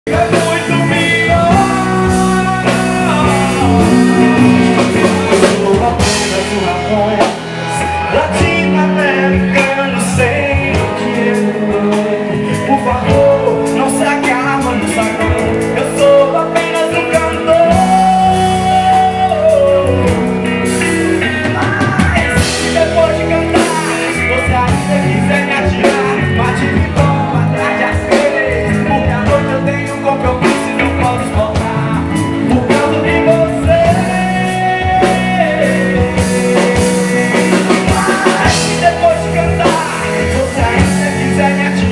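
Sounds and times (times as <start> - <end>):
drums: 0.0 - 41.9
rock band playing: 0.0 - 41.9
person singing: 0.1 - 41.9.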